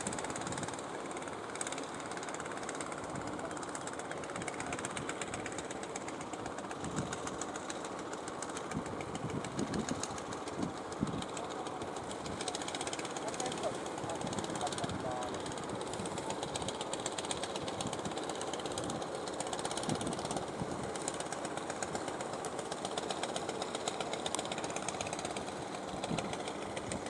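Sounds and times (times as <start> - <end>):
boat engine knocking: 0.1 - 27.0.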